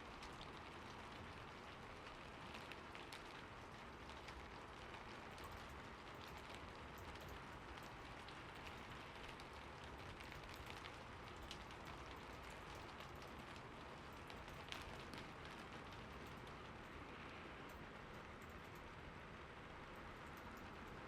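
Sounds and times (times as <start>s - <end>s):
raindrops pattering: 0.0s - 21.0s
steady rain hiss: 0.0s - 21.0s.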